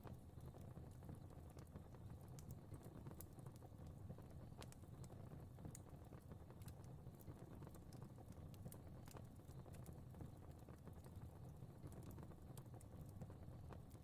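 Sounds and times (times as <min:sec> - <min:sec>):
low rumble of burning: 0:00.0 - 0:14.0.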